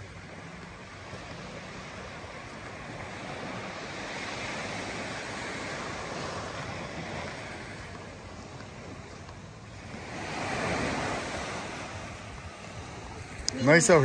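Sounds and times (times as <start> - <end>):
waves washing on a beach: 0.0 - 14.0.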